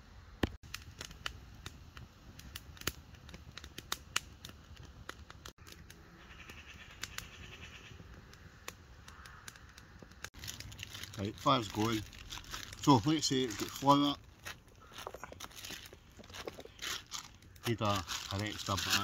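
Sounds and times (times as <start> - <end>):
fire crackling and popping: 0.4 - 19.0.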